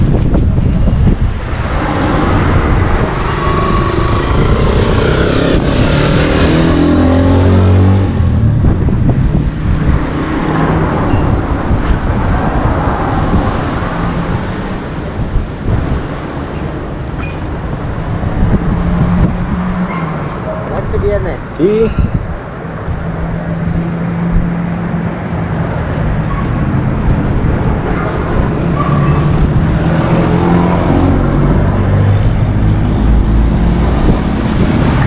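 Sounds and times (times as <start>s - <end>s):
street traffic: 0.0s - 35.0s
wind buffeting microphone: 0.0s - 35.0s
vehicle passing by: 1.0s - 35.0s.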